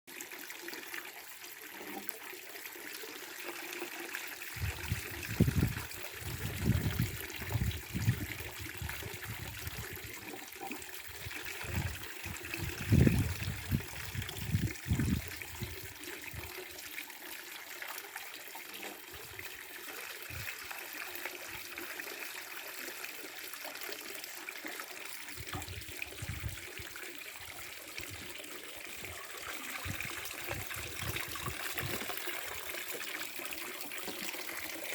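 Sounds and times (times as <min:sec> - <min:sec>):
spring water trickling: 0:00.1 - 0:34.9.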